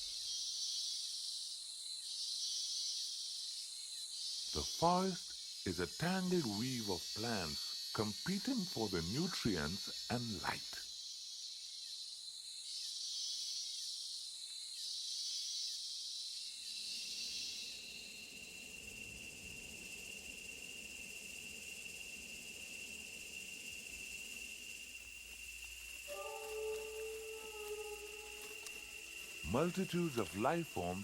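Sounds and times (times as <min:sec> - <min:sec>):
insects buzzing: 0:00.0 - 0:31.0.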